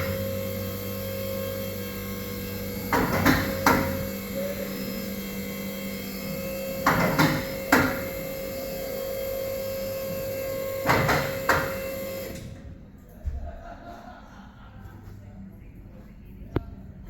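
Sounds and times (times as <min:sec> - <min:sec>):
electric hum of lift: 0:00.0 - 0:17.0.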